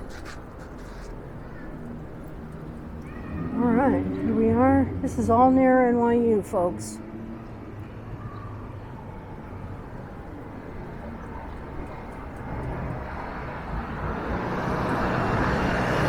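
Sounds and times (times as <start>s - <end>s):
city traffic rumble: 0.0s - 16.0s
vehicle engine approaching: 0.0s - 16.0s.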